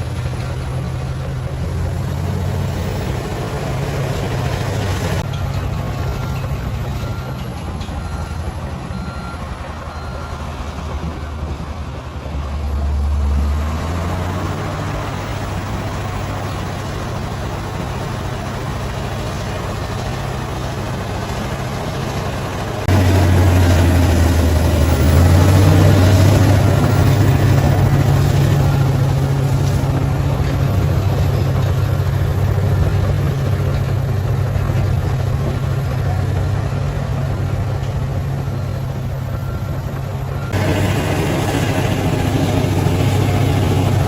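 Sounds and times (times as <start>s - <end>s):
earthmoving equipment diesel engine: 0.0s - 44.0s.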